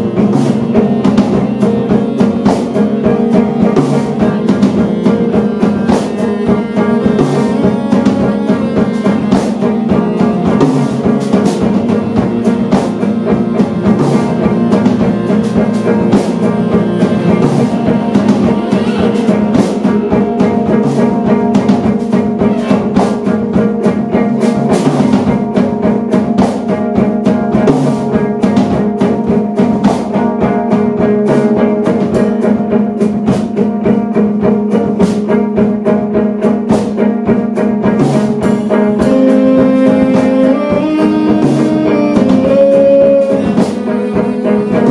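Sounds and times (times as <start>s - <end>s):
busy drumming: 0.0s - 44.9s
cello: 0.0s - 44.9s
electric guitar: 0.0s - 44.9s
saxophone: 0.0s - 44.9s.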